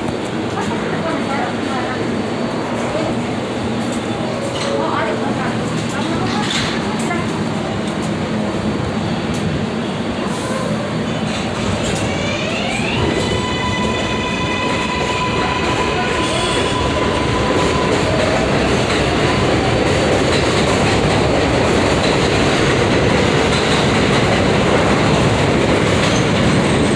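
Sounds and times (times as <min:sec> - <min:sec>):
wheels clattering on rail: 0:00.0 - 0:09.6, 0:11.2 - 0:26.9.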